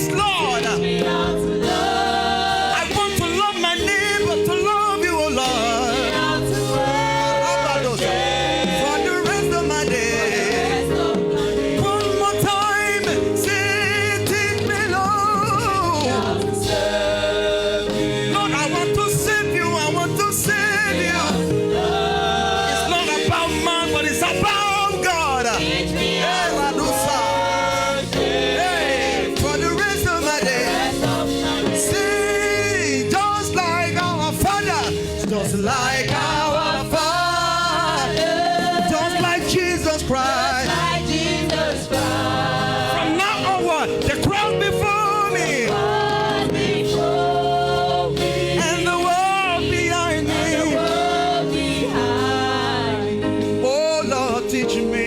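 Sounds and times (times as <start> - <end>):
steady bass beat: 0.0 - 53.6
gospel choir singing: 0.0 - 55.0
sustained keyboard chords: 0.0 - 55.0.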